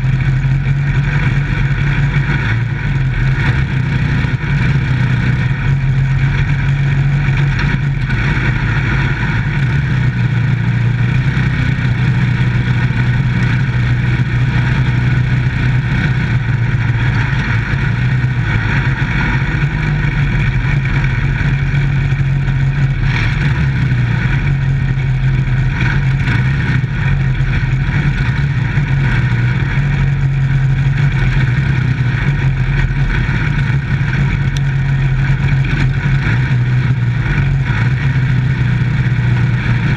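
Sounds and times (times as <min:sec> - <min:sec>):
race car engine running loudly: 0:00.0 - 0:39.9.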